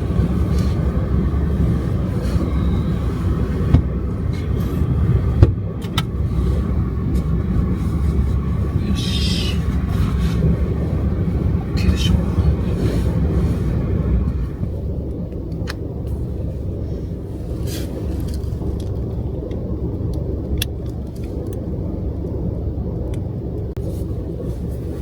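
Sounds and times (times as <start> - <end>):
van driving rumble: 0.0 - 25.0.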